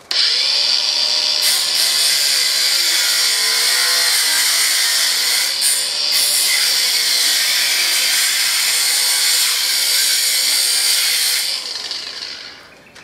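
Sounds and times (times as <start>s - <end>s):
power tool cutting steel mesh: 0.0s - 12.7s.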